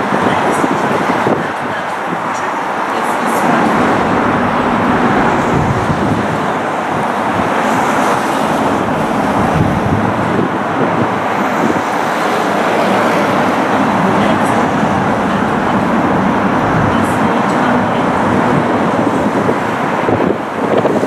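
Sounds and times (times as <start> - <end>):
traffic hum: 0.0 - 21.0
train running on track: 0.0 - 21.0.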